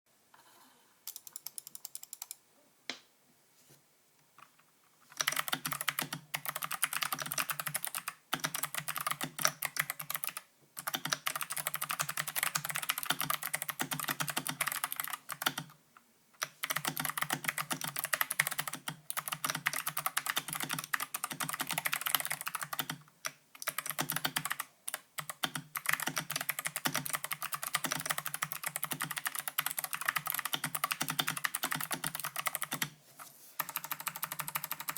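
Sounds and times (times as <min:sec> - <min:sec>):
mechanical keyboard typing: 0:01.1 - 0:02.4, 0:05.1 - 0:15.7, 0:16.4 - 0:32.9, 0:33.6 - 0:34.9.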